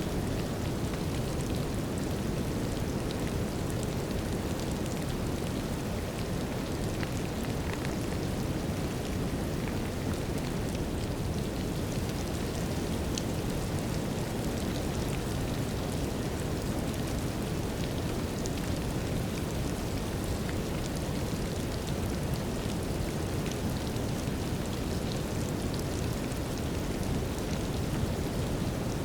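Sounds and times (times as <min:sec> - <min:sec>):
light rain: 0:00.0 - 0:29.0.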